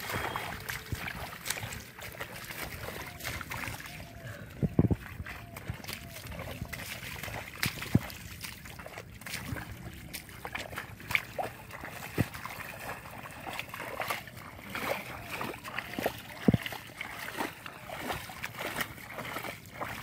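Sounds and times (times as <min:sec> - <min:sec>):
mud squelching and splashing: 0:00.0 - 0:20.0.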